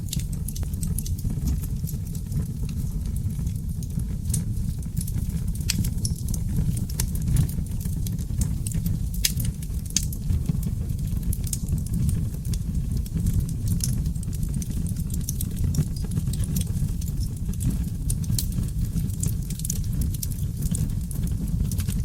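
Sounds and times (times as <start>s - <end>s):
low rumble of burning logs: 0.0s - 22.0s
wood fire crackling and popping: 0.0s - 22.0s.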